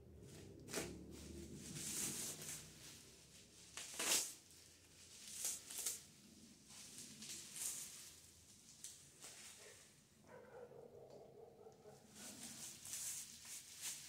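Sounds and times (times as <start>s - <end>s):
bubble wrap and plastic crinkling: 0.2s - 9.8s, 12.0s - 14.0s.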